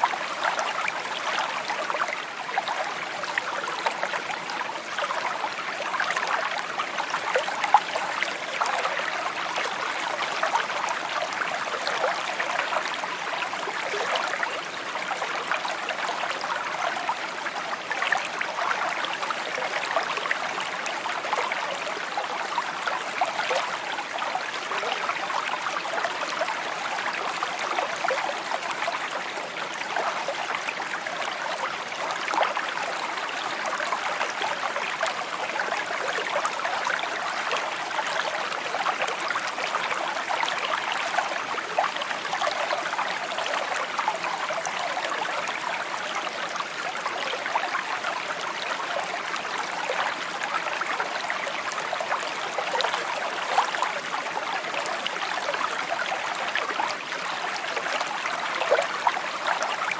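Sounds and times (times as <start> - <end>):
creek babbling over stones: 0.0 - 59.9.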